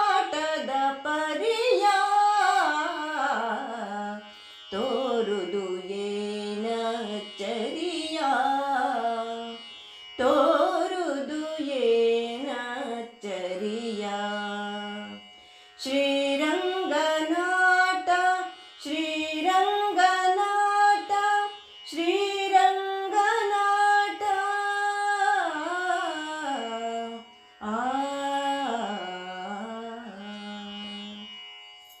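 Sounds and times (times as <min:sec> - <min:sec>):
woman singing devotional song: 0:00.0 - 0:31.3.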